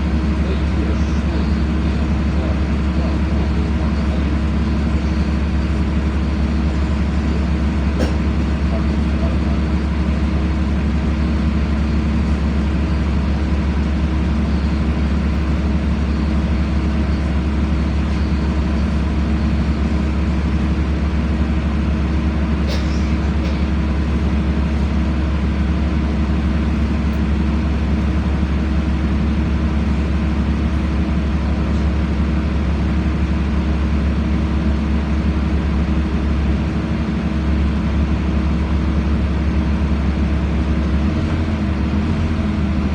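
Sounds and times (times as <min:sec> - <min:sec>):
bus engine drone from inside: 0:00.0 - 0:42.9.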